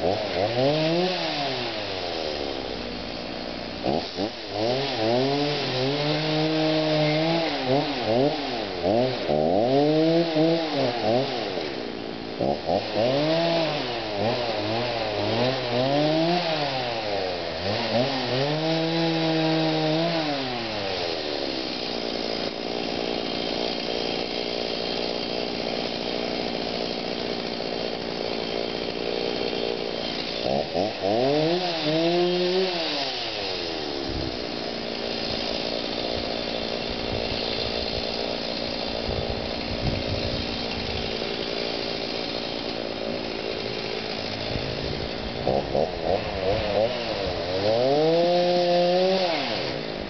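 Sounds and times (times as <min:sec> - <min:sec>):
chainsaw idling and revving: 0:00.0 - 0:50.0.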